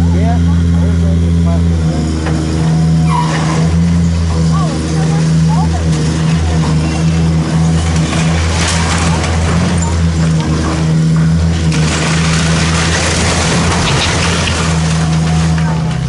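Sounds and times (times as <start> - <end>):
excavator diesel engine: 0.0 - 16.0
demolition debris clattering: 1.7 - 16.0.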